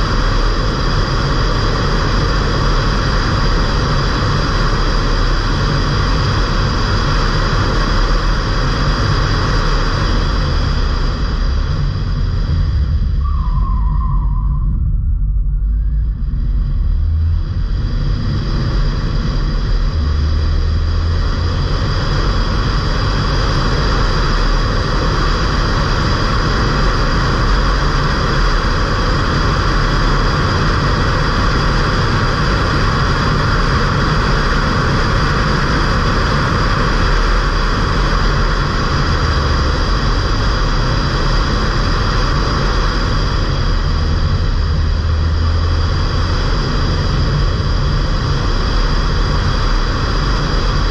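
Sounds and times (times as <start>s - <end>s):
low engine drone: 0.0s - 50.9s
road and wind rush: 0.0s - 50.9s.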